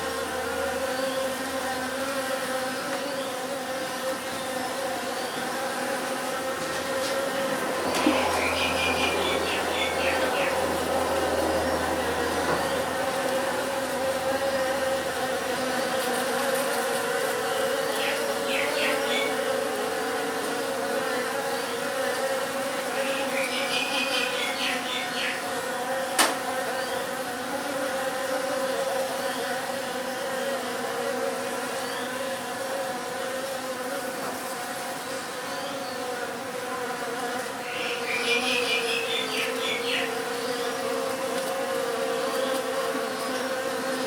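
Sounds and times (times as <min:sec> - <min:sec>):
bees buzzing: 0:00.0 - 0:44.0.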